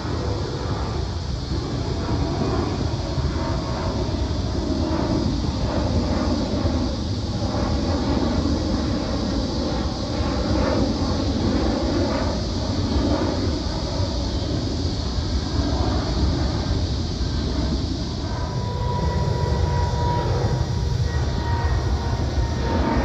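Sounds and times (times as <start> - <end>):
jet airliner engine rumble: 0.0 - 23.0.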